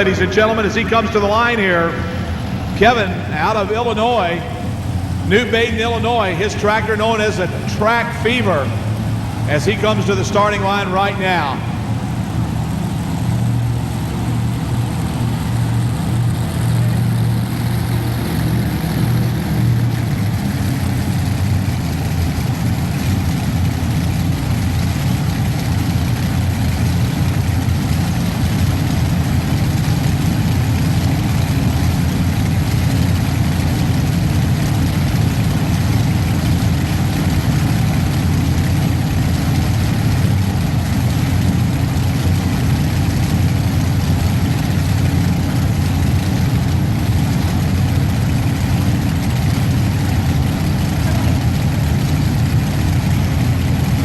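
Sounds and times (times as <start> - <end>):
tractor engine idling: 0.0 - 54.0.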